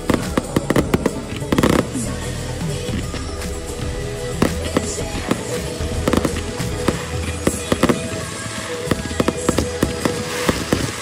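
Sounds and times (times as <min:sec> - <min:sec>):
fireworks bangs and crackles: 0:00.0 - 0:02.2, 0:02.8 - 0:11.0.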